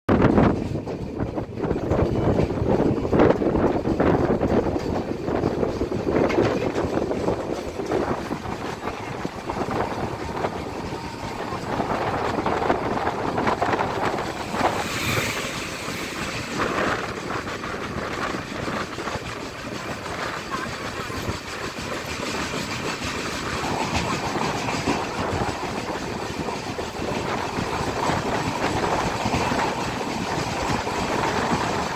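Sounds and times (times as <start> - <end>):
wind and rail noise: 0.1 - 31.9
electric locomotive passing: 0.2 - 31.9.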